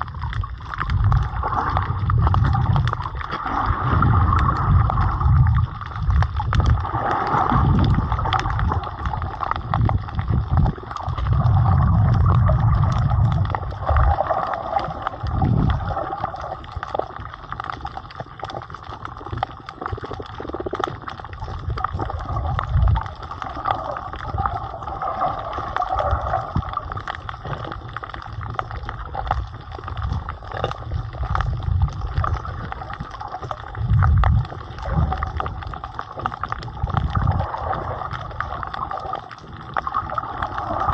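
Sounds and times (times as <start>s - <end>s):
underwater gurgling and sloshing: 0.0s - 40.9s.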